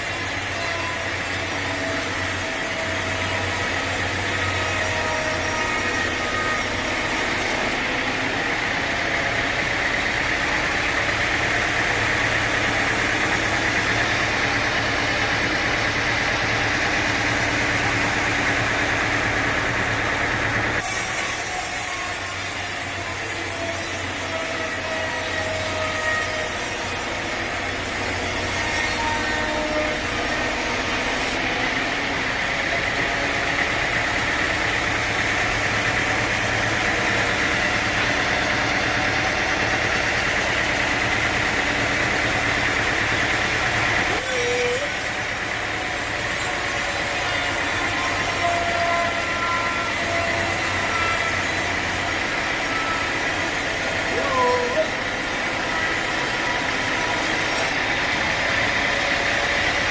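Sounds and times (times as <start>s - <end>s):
saw cutting log whine: 0.0s - 59.9s
sawmill engine hum: 0.0s - 59.9s.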